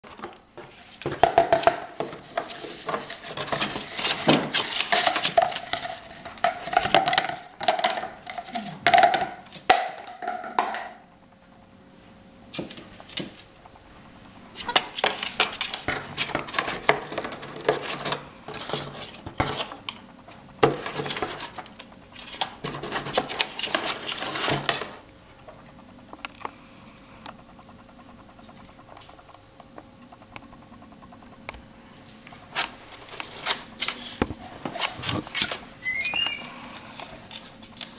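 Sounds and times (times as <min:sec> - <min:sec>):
parrot chewing cardboard: 0:00.0 - 0:09.8, 0:14.5 - 0:31.6, 0:32.3 - 0:37.9.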